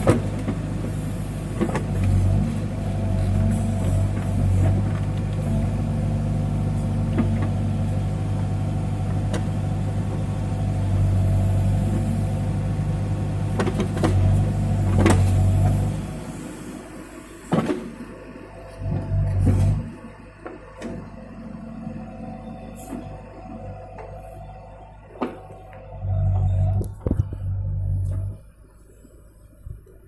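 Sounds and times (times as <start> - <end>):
diesel engine running: 0.0 - 29.6.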